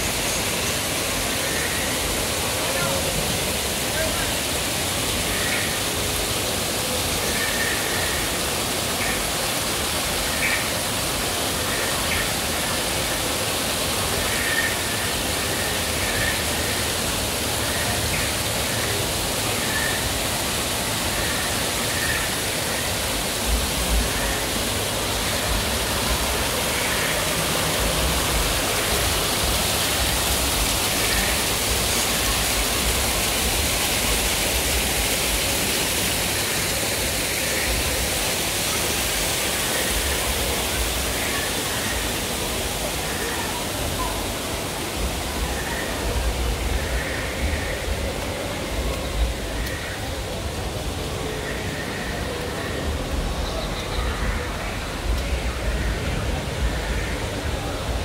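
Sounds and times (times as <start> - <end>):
rushing falling water: 0.0 - 58.0.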